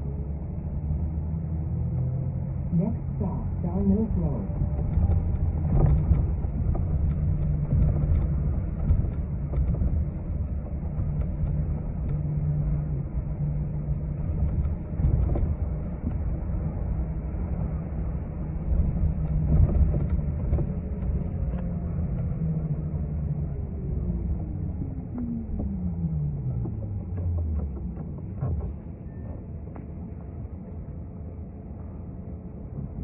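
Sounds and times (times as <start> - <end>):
bus engine and road drone: 0.0 - 33.0.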